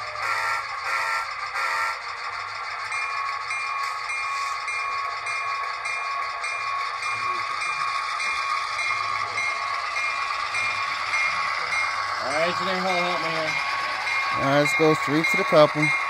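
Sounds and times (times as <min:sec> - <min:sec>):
diesel engine sound from speaker: 0:00.0 - 0:16.0.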